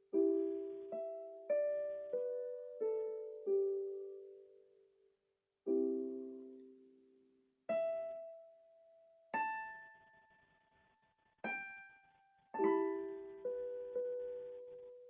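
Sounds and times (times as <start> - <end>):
solo piano notes and chords: 0.0 - 4.8, 5.6 - 15.0.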